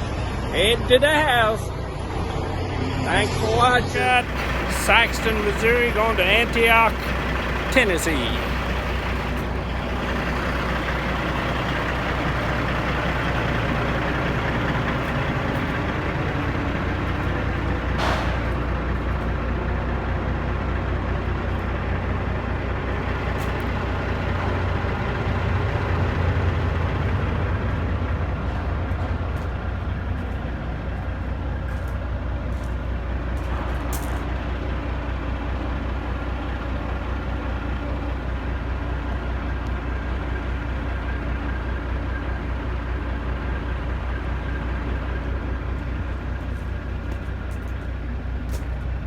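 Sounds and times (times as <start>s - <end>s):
diesel truck engine running: 0.0s - 49.0s.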